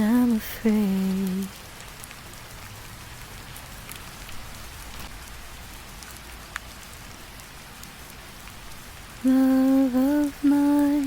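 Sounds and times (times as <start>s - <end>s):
rain drop ticks: 0.0s - 11.0s
steady rainfall: 0.0s - 11.0s.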